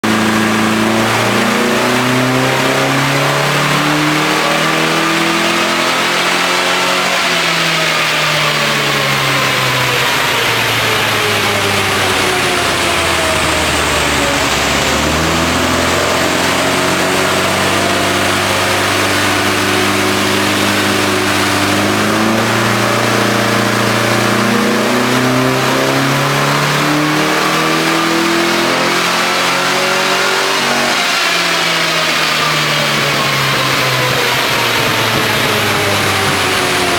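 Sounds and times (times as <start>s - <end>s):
race car engine running hard: 0.0s - 36.9s.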